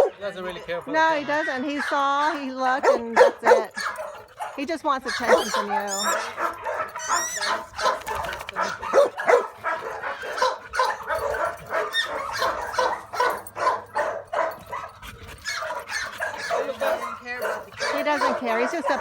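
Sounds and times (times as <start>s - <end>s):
puppy barking: 0.0s - 0.7s, 1.3s - 19.0s.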